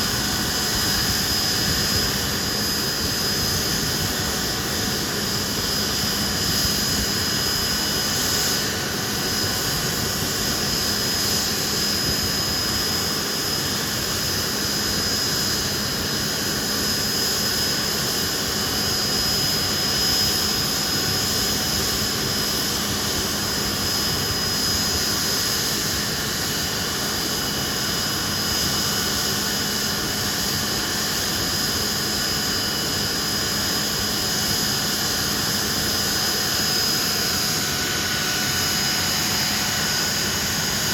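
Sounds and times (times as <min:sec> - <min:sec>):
jet engines roaring with whine: 0:00.0 - 0:40.9.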